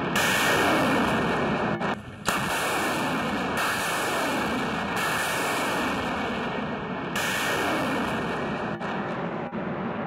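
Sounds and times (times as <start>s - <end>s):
rocket launches roaring: 0.0s - 10.0s.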